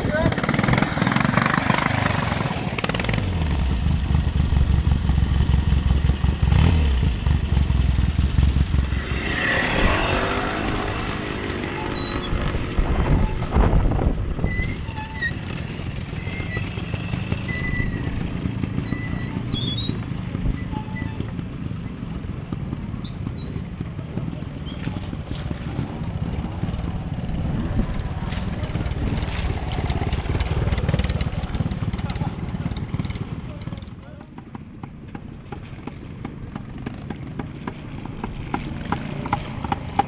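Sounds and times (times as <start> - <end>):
motorcycle engines running: 0.0 - 40.0.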